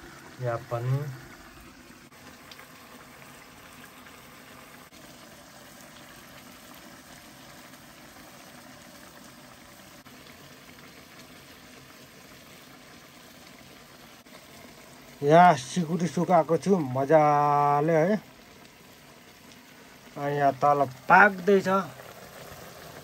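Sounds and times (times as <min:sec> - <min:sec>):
pot of food boiling: 0:00.0 - 0:23.0.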